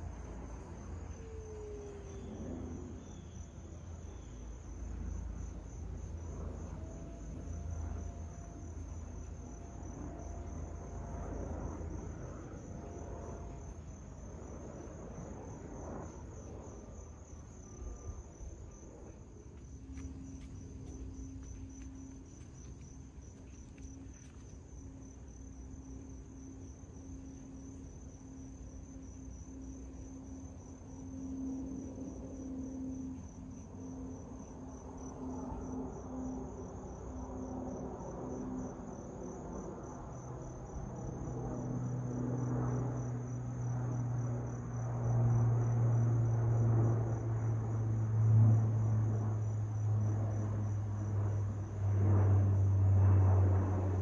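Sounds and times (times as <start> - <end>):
crickets trilling: 0.0 - 54.0
low steady hum: 0.0 - 54.0.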